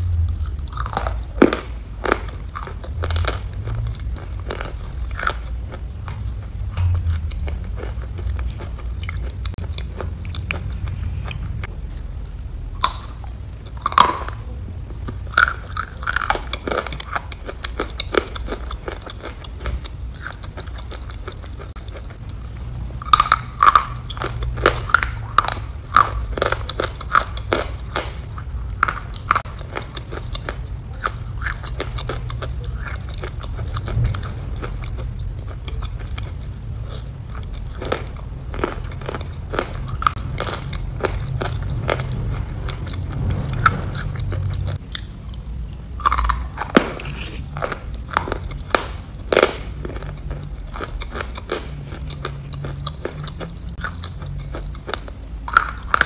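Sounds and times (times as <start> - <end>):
steady low hum: 0.0 - 56.0
wet chewing and mouth clicks: 0.0 - 56.0.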